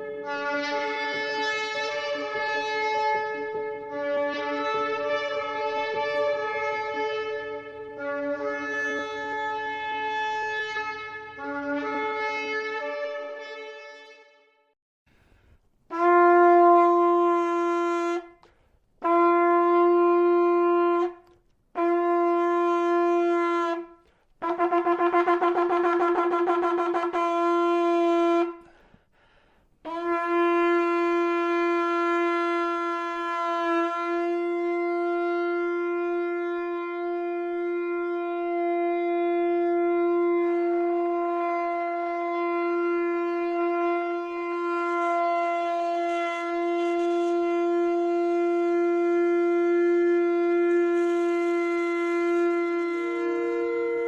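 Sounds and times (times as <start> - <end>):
shofar blasts: 0.0 - 14.6, 15.9 - 28.8, 29.8 - 54.0.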